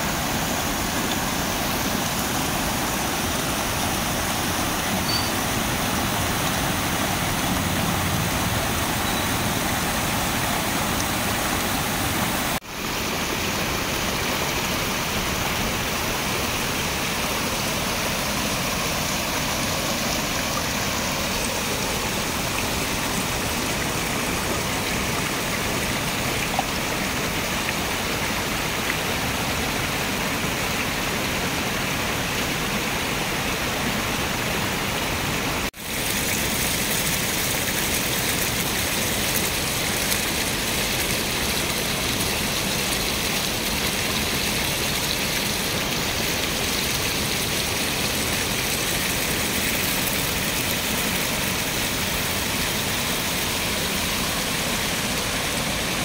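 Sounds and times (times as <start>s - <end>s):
river rapids rushing roar: 0.0s - 56.0s.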